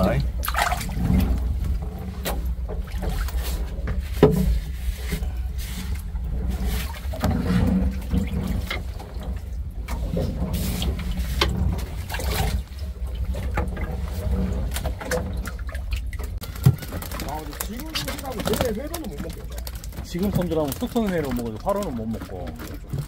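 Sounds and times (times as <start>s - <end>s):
low steady rumble: 0.0s - 23.0s
water sloshing and splashing: 0.0s - 23.0s.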